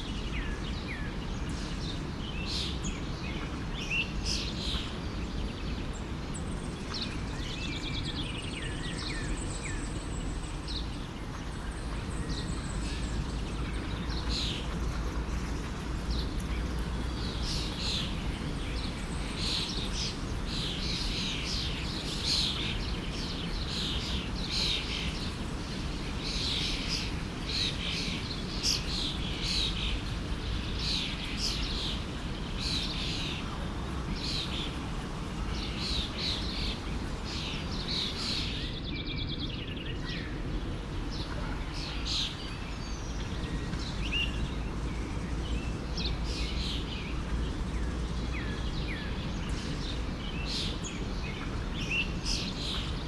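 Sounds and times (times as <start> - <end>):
forest stream rushing: 0.0 - 38.8, 39.4 - 53.0
songbirds chirping: 0.0 - 53.0.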